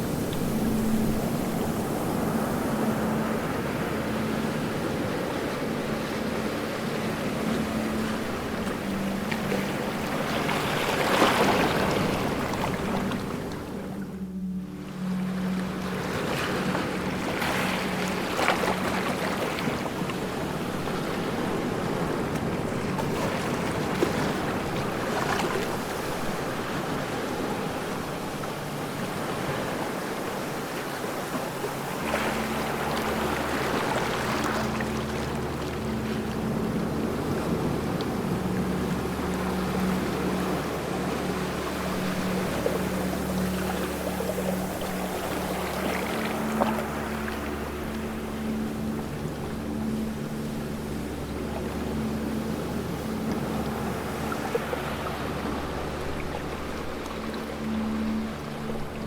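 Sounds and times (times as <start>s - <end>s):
ocean waves breaking: 0.0s - 59.0s
steady low hum: 0.0s - 59.0s.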